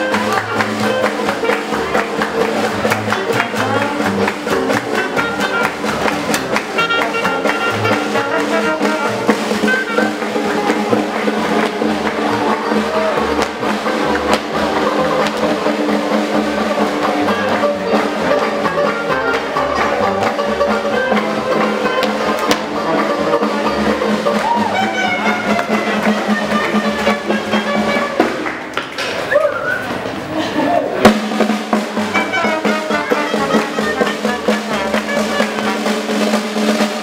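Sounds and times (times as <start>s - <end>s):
drums keeping a steady beat: 0.0s - 37.0s
swing band playing: 0.0s - 37.0s.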